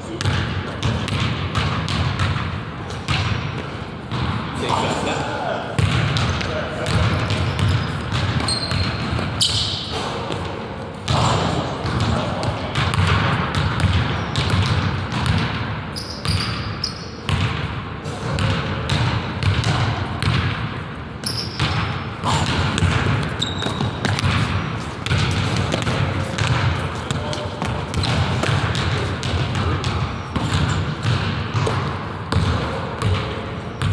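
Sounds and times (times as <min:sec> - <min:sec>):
sneakers squeaking: 0:00.0 - 0:33.9
basketball bouncing on wooden floor: 0:00.2 - 0:02.5, 0:03.1 - 0:04.4, 0:05.8 - 0:10.5, 0:11.1 - 0:16.6, 0:17.3 - 0:17.7, 0:18.3 - 0:20.8, 0:21.4 - 0:33.9.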